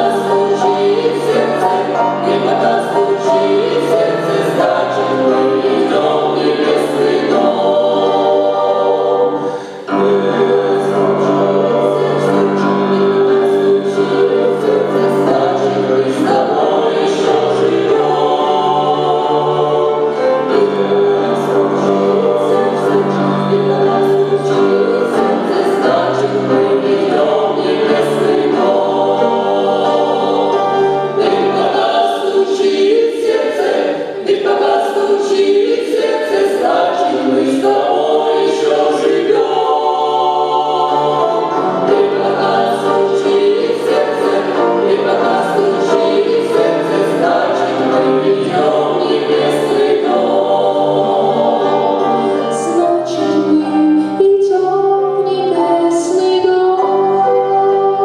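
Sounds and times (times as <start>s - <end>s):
church choir singing: 0.0s - 58.0s.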